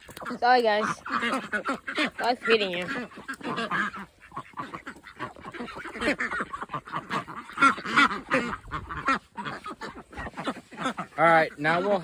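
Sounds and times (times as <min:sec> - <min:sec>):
waterfowl calling: 0:00.0 - 0:12.0.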